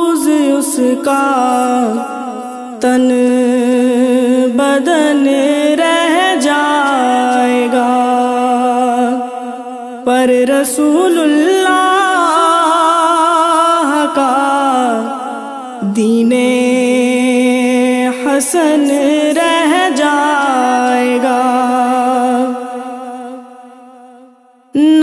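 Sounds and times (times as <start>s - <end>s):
woman singing slow melody: 0.0s - 25.0s.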